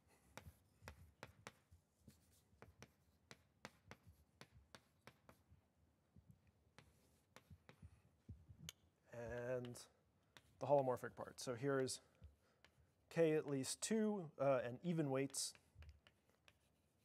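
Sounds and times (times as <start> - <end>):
chalk tapping on blackboard: 0.2 - 5.6, 6.3 - 14.0, 15.1 - 17.0.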